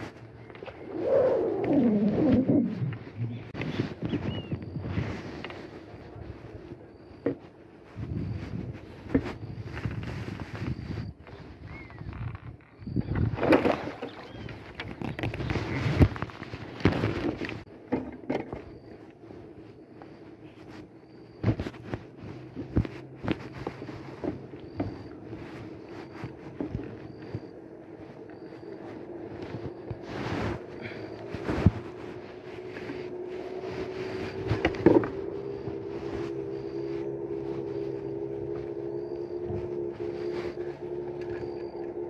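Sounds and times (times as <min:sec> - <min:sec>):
wind rumbling on microphone: 0:00.0 - 0:17.8, 0:18.4 - 0:42.0
steady low hum: 0:00.0 - 0:42.0.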